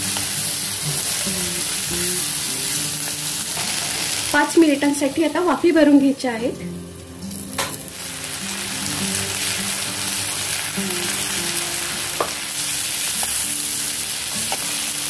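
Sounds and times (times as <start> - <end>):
beans sizzling in hot oil: 0.0 - 6.0, 7.0 - 15.0.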